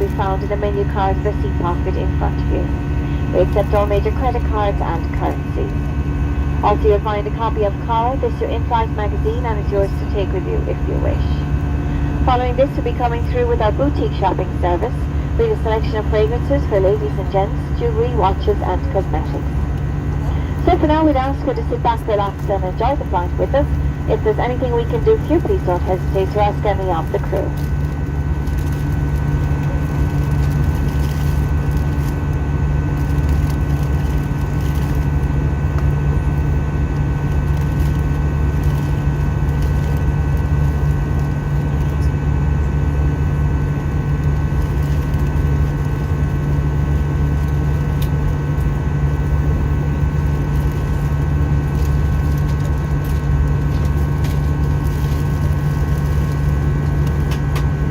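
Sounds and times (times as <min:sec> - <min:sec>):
airplane cabin drone: 0:00.0 - 0:57.9.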